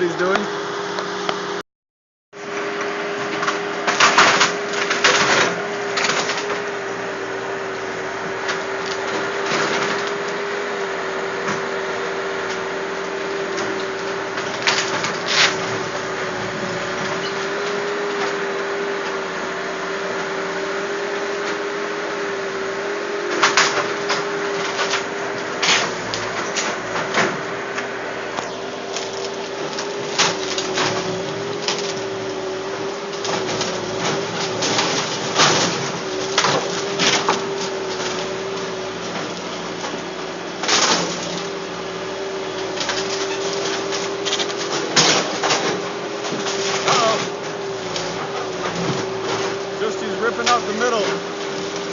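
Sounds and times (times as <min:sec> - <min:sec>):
machine humming: 0:02.4 - 0:51.9.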